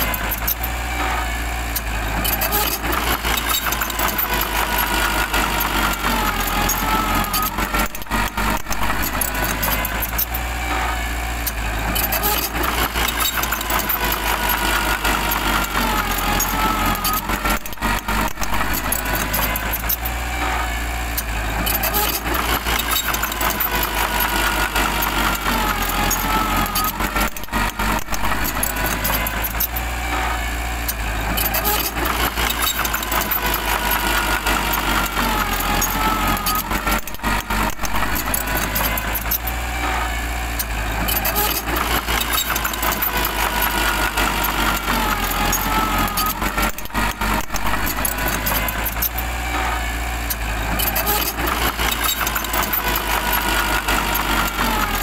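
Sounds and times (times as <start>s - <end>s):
bulldozer diesel engine: 0.0s - 55.0s
bulldozer pushing dirt and rock: 0.0s - 55.0s.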